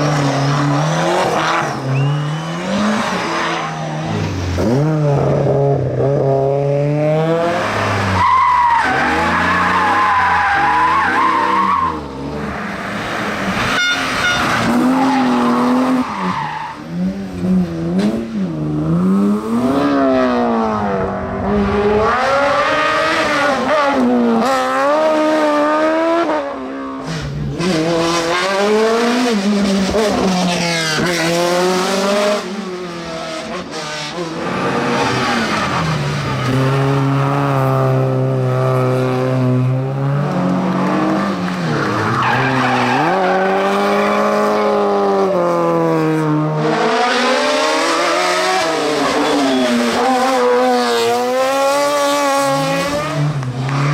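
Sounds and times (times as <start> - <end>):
race car engine revving hard: 0.0 - 53.9.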